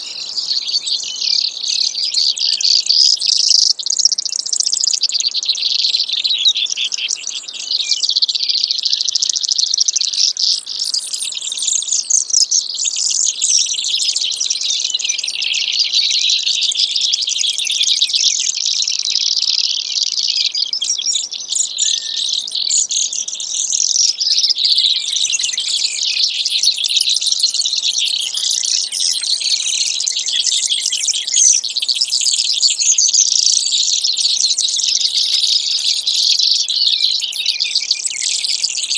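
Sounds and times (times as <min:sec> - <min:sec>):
sparrow singing trills: 0:00.0 - 0:38.9.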